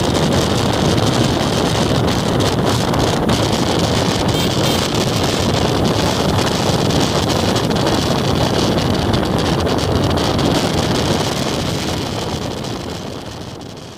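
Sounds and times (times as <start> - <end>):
motorcycle engine running: 0.0 - 13.9
wind buffeting microphone: 0.0 - 13.9.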